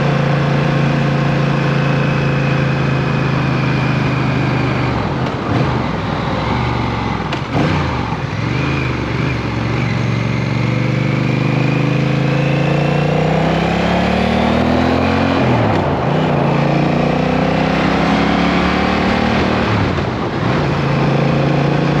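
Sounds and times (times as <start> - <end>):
motorcycle engine revving: 0.0 - 22.0
wind and road noise: 0.0 - 22.0.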